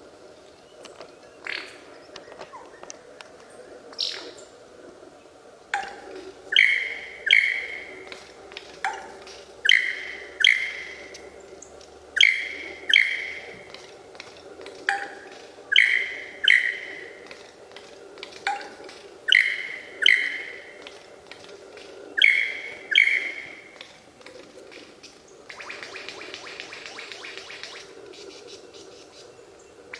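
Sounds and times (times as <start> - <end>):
faint steady hum: 0.0 - 29.9
bird calling with falling notes: 5.7 - 29.8.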